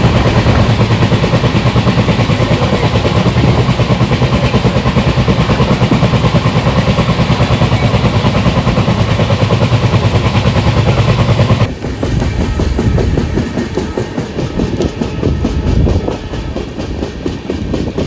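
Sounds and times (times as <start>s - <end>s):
diesel locomotives throbbing: 0.0s - 18.0s.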